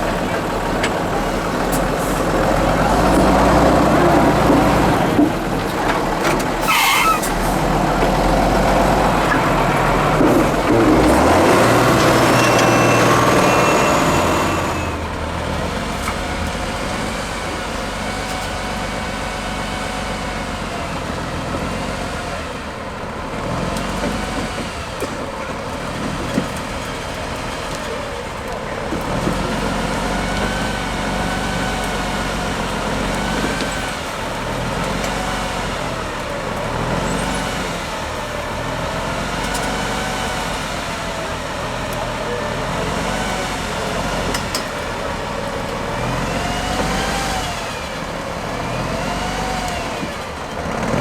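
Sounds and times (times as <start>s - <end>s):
diesel truck engine under load: 0.0s - 51.0s.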